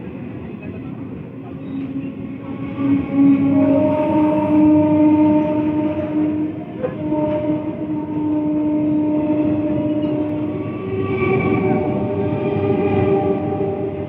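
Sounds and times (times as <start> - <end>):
electric train whine: 0.0 - 14.0
wheels rumbling on rail: 0.0 - 14.0.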